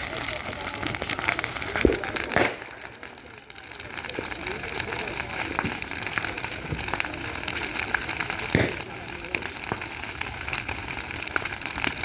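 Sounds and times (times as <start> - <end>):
bonfire crackling: 0.0 - 12.0.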